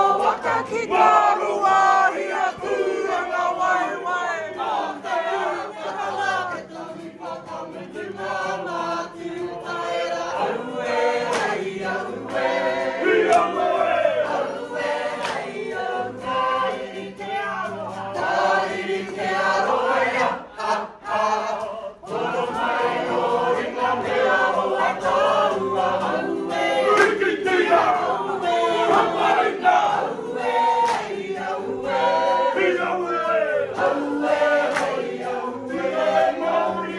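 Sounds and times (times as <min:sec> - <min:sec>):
group singing in unison: 0:00.0 - 0:36.9.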